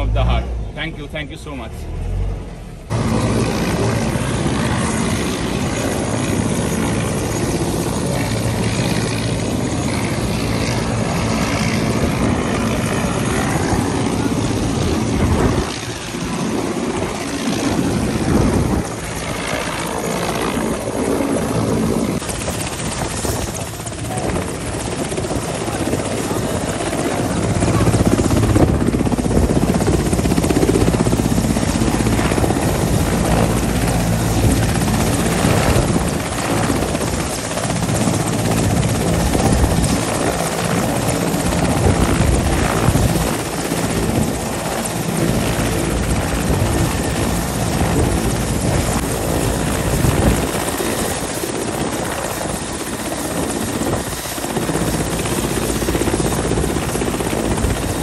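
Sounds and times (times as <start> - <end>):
helicopter turbine and rotors: 0.0 - 58.0.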